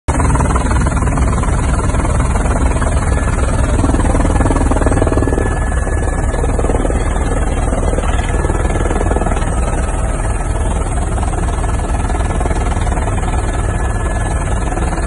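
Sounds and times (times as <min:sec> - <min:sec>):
helicopter rotor and engine noise: 0:00.1 - 0:15.0.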